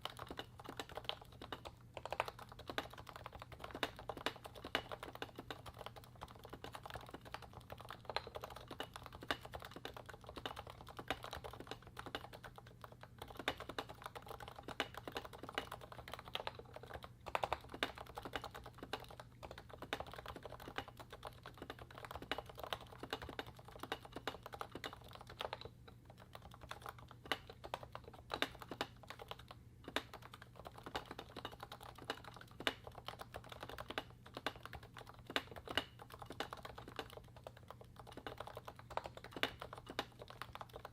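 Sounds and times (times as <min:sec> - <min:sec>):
keyboard typing: 0:00.0 - 0:40.9.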